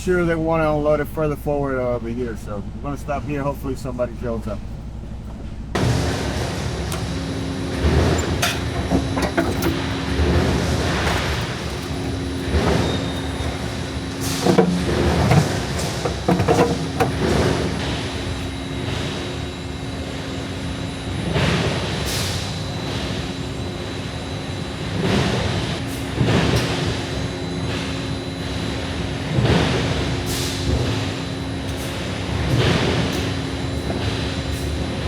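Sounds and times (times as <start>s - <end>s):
machinery hum: 0.0s - 35.0s.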